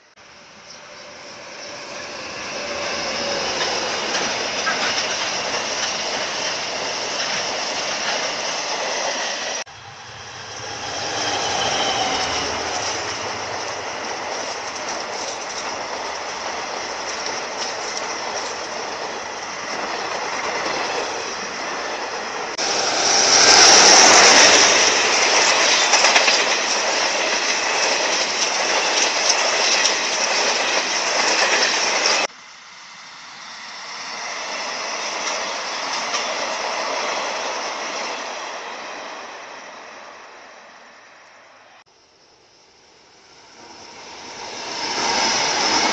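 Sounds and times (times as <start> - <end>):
freight train passing: 0.0 - 45.9
passenger train passing: 0.0 - 45.9.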